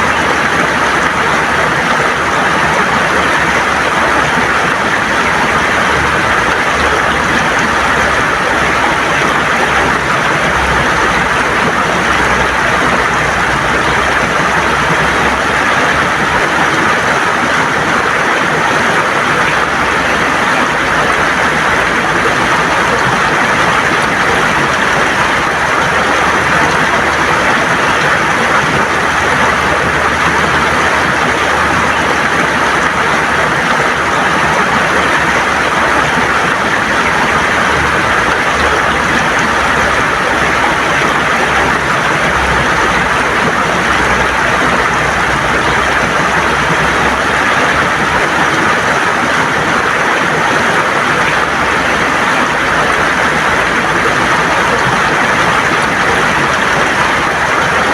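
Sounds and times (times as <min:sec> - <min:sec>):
river water rushing over stones: 0:00.0 - 0:57.9.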